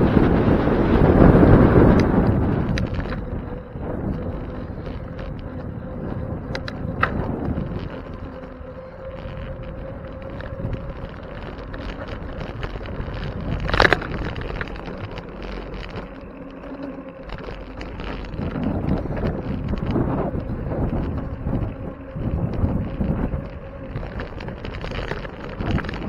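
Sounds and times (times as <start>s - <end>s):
bicycle tyres on road: 0.0s - 26.0s
faint steady hum: 0.0s - 26.0s
wind rumble on microphone: 0.0s - 26.0s
small rattles: 0.9s - 26.0s.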